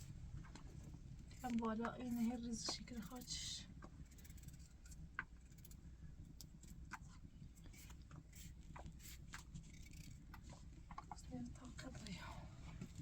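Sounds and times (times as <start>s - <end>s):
faint low background rumble: 0.0s - 13.0s.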